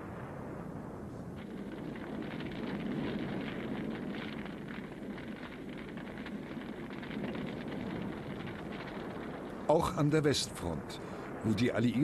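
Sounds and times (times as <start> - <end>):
battle rumbling and crackling: 1.3 - 12.0.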